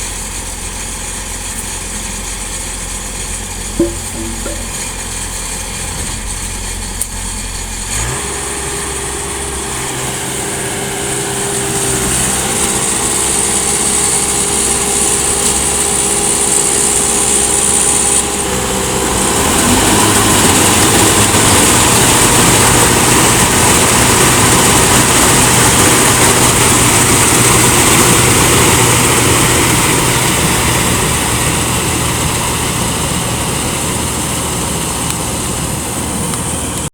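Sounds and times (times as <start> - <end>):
combine harvester engine running: 0.0 - 36.9.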